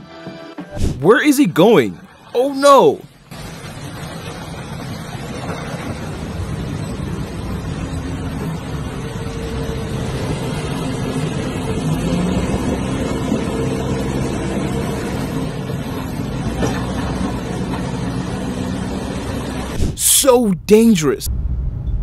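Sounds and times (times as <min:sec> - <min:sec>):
diesel engines running: 0:01.0 - 0:20.4.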